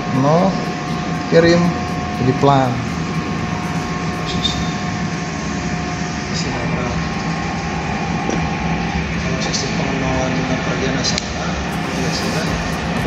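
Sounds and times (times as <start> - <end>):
milling machine hum and whine: 0.0 - 13.0.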